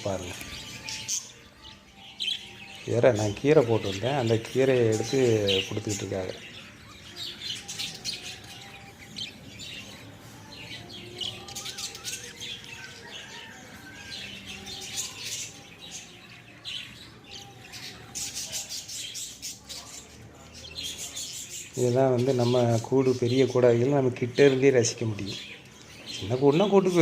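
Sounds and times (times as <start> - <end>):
lovebirds chirping and chattering: 0.0 - 27.0.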